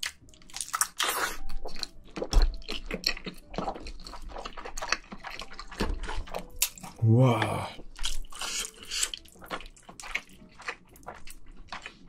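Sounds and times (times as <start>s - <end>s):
chewing with mouth clicks: 0.0s - 7.0s, 7.8s - 12.0s.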